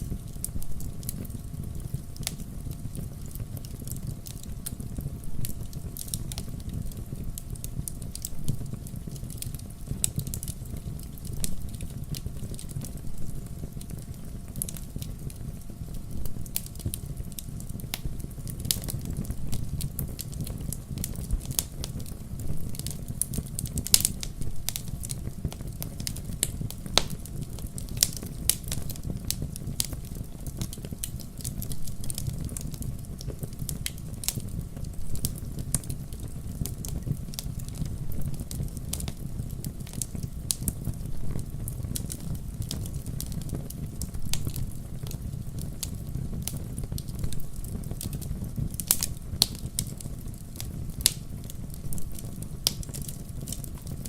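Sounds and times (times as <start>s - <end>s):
logs crackling and popping: 0.0s - 54.0s
low rumble of flames: 0.0s - 54.0s.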